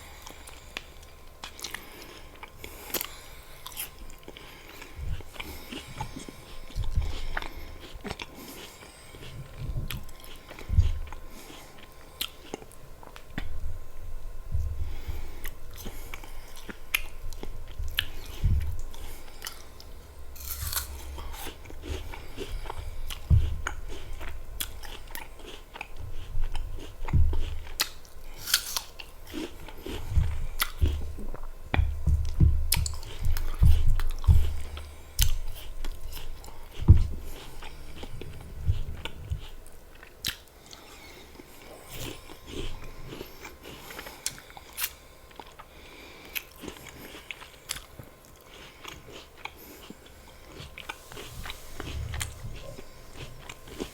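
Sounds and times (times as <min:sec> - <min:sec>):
crunchy apple chewing: 0:00.1 - 0:53.9.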